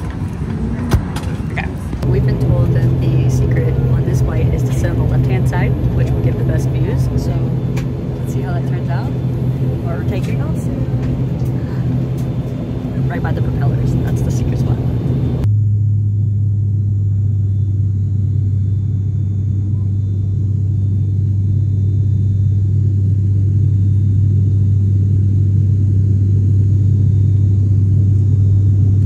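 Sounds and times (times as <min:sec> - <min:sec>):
propeller drone in aircraft cabin: 0:00.0 - 0:29.0.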